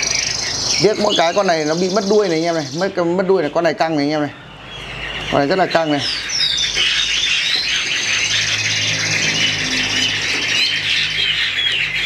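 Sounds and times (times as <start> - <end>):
birds singing whistles and trills: 0.0 - 12.0.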